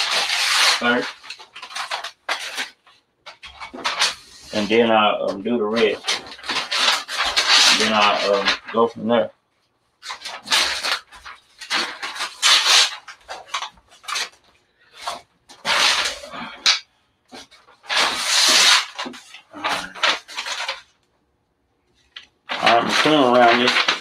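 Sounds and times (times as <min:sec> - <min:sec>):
paper and tape handled by hand: 0:00.0 - 0:09.1, 0:10.0 - 0:21.0, 0:22.0 - 0:24.0.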